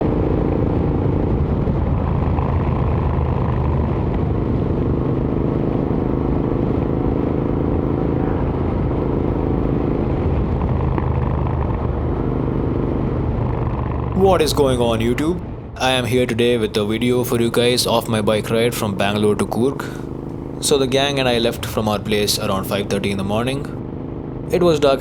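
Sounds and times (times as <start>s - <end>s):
motorcycle engine exhaust note: 0.0s - 25.0s.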